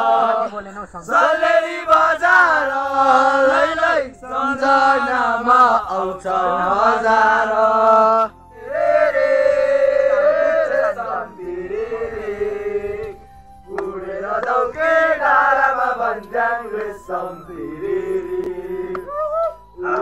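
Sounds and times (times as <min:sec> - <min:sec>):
group of men singing: 0:00.0 - 0:20.0.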